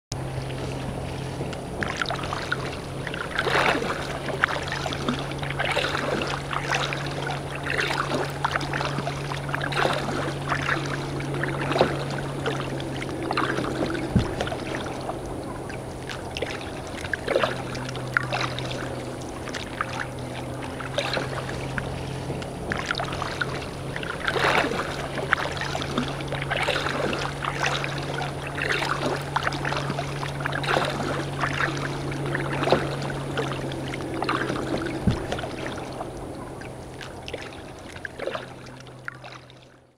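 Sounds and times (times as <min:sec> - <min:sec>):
steady low hum: 0:00.1 - 0:39.9
paddle splashing in water: 0:00.2 - 0:39.9.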